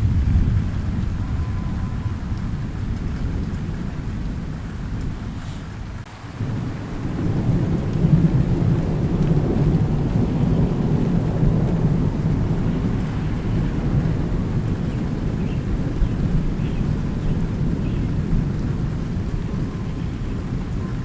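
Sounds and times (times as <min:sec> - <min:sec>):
rolling thunder: 0:00.0 - 0:21.0
steady rain: 0:00.0 - 0:21.0.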